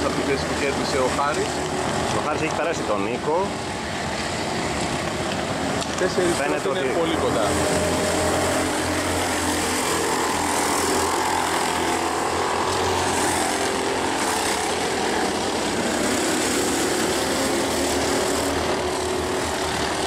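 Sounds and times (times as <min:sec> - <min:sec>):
go-kart engines racing: 0:00.0 - 0:20.0.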